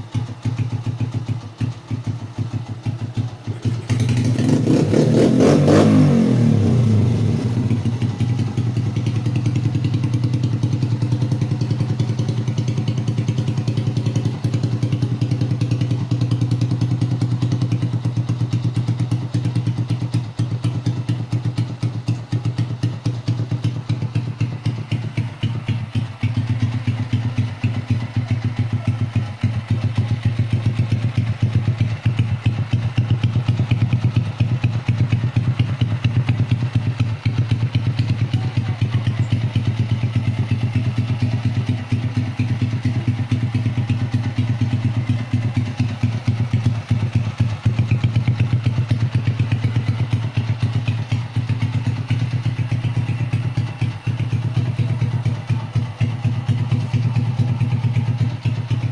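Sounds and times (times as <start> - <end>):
motorcycle engine idling: 0.0 - 58.9.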